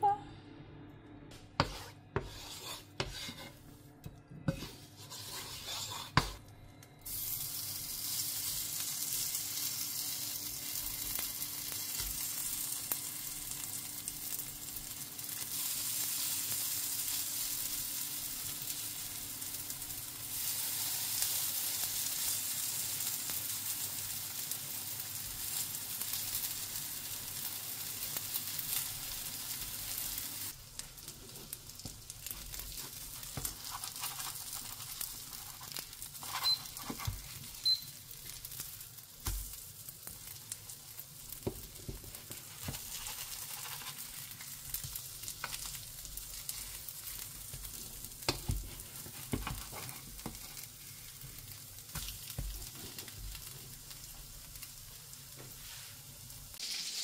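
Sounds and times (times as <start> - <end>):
batter sizzling in a pan: 1.6 - 3.6, 4.5 - 6.4, 7.0 - 57.0.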